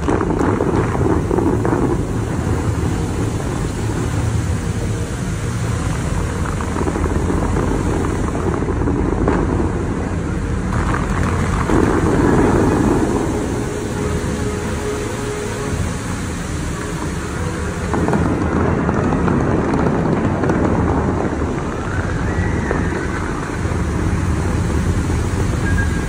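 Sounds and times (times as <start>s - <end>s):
fountain water jets spraying: 0.0s - 26.0s
wind on microphone: 0.0s - 26.0s.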